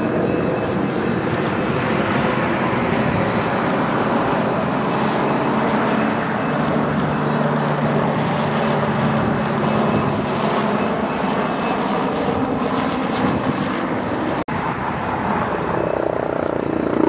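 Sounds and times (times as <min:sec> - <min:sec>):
aircraft engine in flight: 0:00.0 - 0:17.0.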